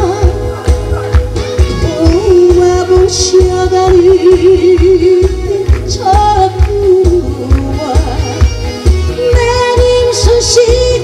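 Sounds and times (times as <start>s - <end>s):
backing track with heavy bass: 0.0s - 11.0s
woman singing into microphone: 0.0s - 11.0s.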